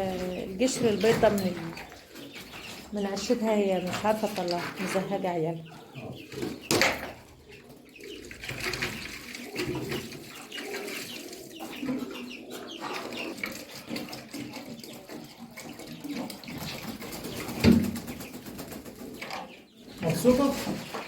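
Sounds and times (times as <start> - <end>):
birds cooing: 0.0 - 21.0.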